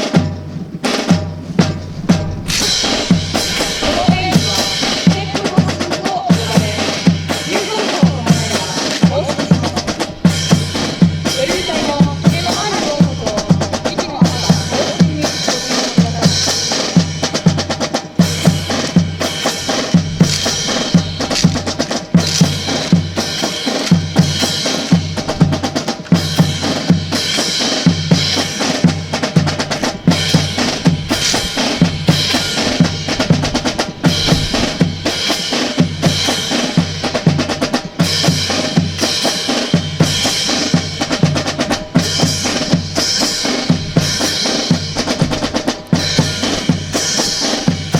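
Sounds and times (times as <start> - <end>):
marching drum cadence: 0.0 - 47.9.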